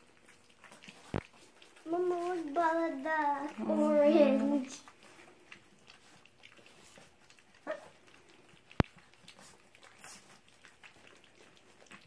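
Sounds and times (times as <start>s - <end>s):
puppies eating wet food: 0.0s - 12.0s
puppy vocal sound: 0.0s - 12.0s.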